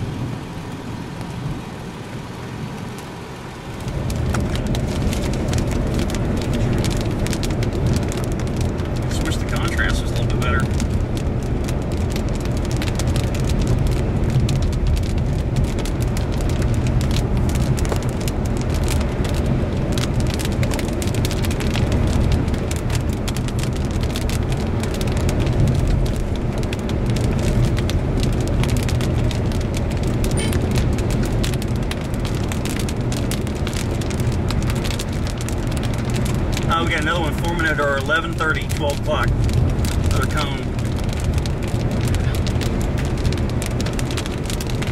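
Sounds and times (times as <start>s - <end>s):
car engine and road noise: 0.0s - 44.9s
raindrops tapping on car: 0.0s - 44.9s.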